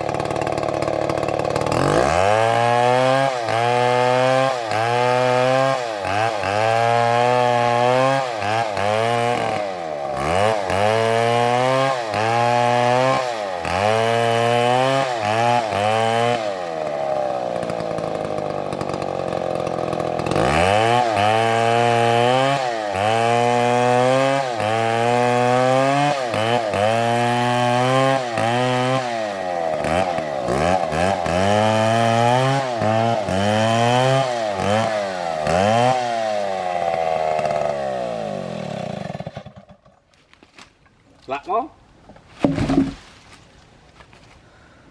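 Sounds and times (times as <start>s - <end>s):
chainsaw cutting wood: 0.0s - 40.9s, 42.1s - 43.5s.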